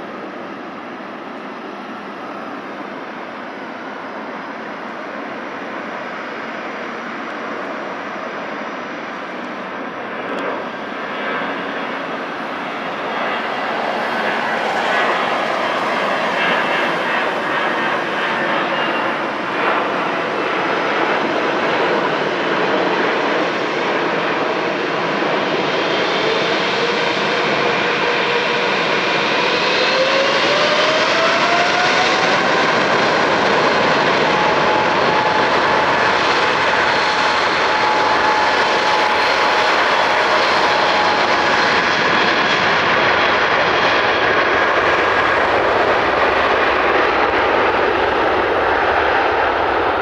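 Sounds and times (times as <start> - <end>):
jet engines roaring: 0.0 - 50.0
rising engine whine: 0.0 - 50.0.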